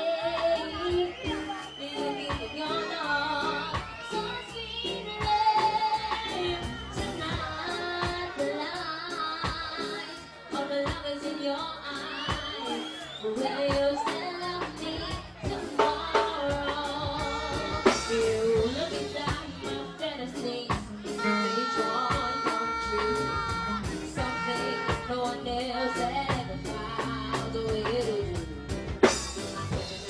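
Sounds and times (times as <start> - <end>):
child singing into a microphone: 0.0 - 12.6, 13.4 - 28.5
reggae backing music: 0.0 - 30.0.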